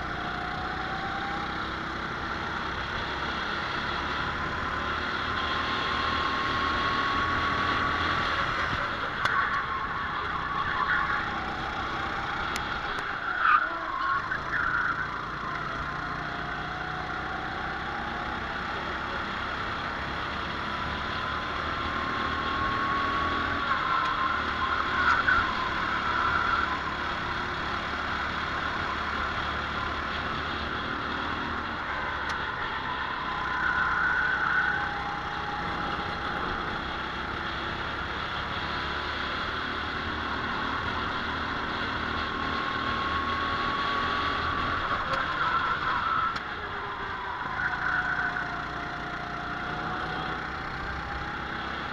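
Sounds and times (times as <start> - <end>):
racing kart engine: 0.0 - 51.9.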